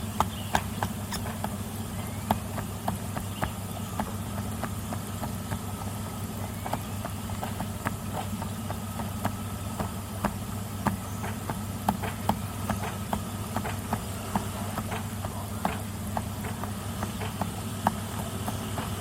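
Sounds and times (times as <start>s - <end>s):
pump humming: 0.0s - 19.0s.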